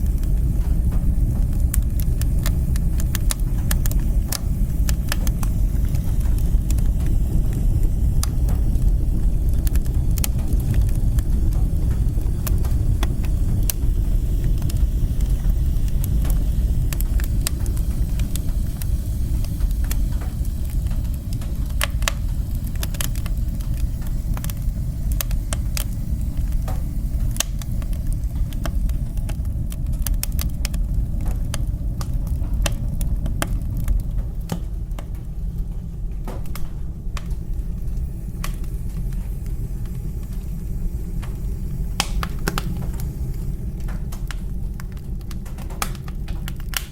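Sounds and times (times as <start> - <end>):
fire crackles and pops: 0.0 - 46.9
fire flames rumbling: 0.0 - 46.9.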